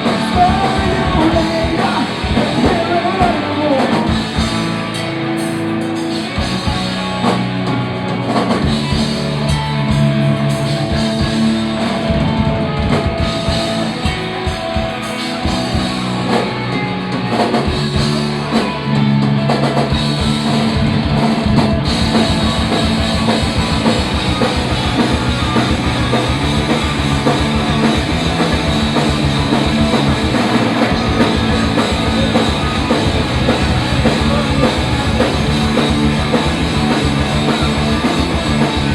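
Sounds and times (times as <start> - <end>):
distorted guitar and bass: 0.0 - 38.9
drum kit pounding: 0.0 - 38.9.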